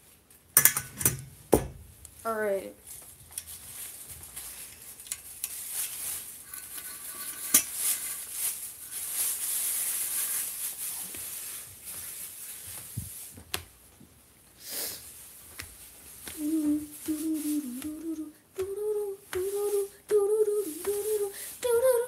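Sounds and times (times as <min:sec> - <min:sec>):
rustling and scraping handling noise: 0:02.0 - 0:14.2, 0:15.0 - 0:22.0.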